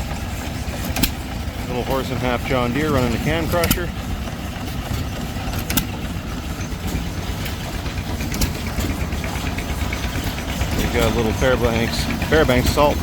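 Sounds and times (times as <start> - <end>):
stationary engine chugging: 0.0 - 13.0.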